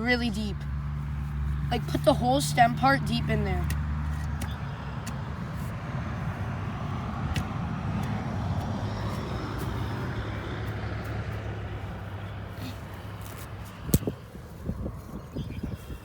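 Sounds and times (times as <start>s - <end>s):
vehicle passing: 0.0s - 15.8s
road traffic rumble: 0.0s - 16.0s.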